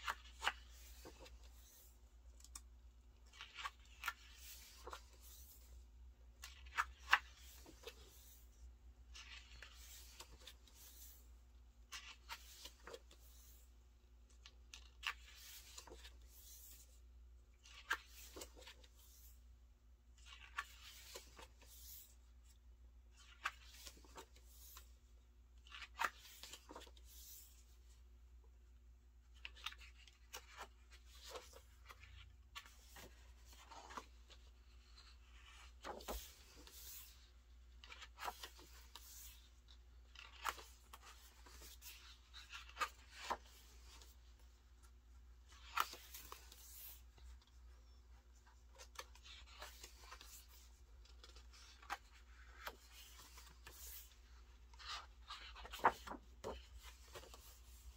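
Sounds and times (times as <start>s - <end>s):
book pages turning: 0.0s - 28.4s, 29.2s - 57.9s.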